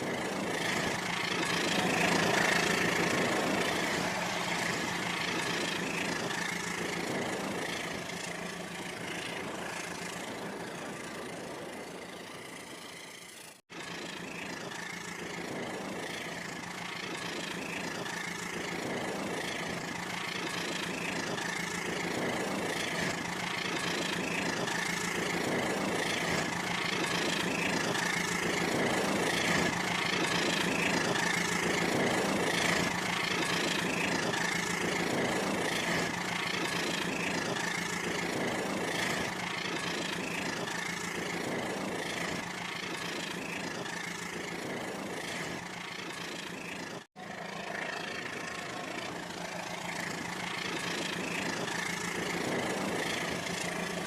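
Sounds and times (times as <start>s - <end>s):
toy train motor whine: 0.0s - 54.0s.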